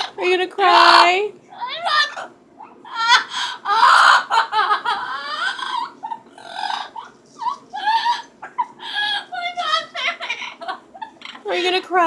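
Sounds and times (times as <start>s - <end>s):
parrot mimicking crying and laughter: 0.0s - 12.0s.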